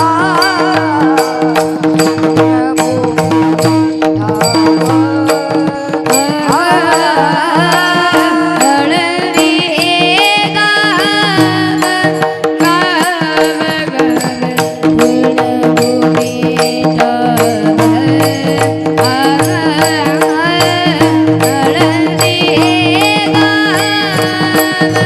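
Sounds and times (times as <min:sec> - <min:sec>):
boy singing: 0:00.0 - 0:25.0
hand drum beat: 0:00.0 - 0:25.0.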